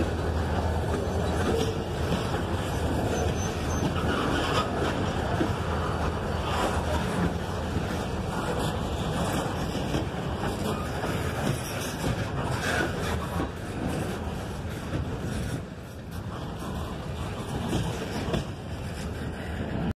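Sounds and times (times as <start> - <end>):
freight train wheels clacking on rails: 0.0 - 19.9.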